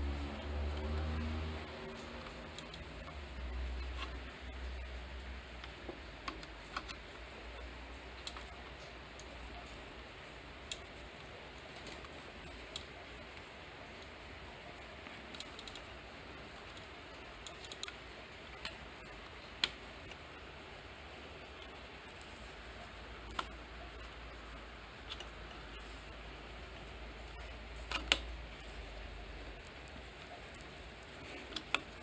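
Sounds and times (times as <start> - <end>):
faint steady hiss: 0.0 - 32.0
wires clicking when handled: 0.1 - 14.2, 14.8 - 20.4, 21.4 - 32.0.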